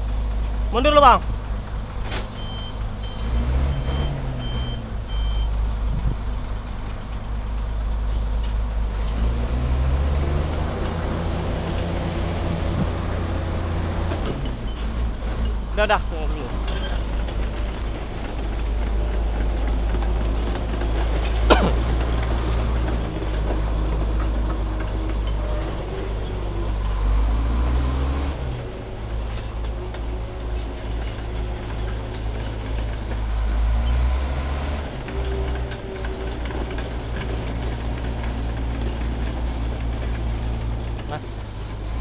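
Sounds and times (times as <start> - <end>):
truck diesel engine revving: 0.0 - 42.0.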